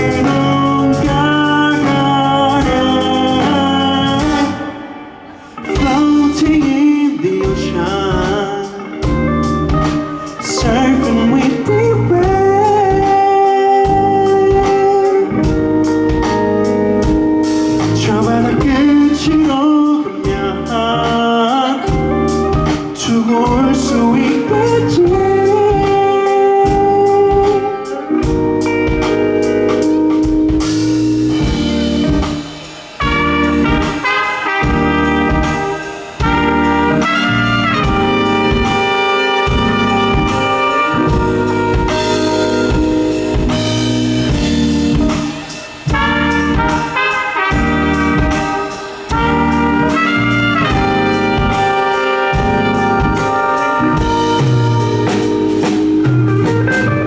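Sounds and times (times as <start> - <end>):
melodic lead line: 0.0 - 57.0
steady drum beat: 0.0 - 57.0.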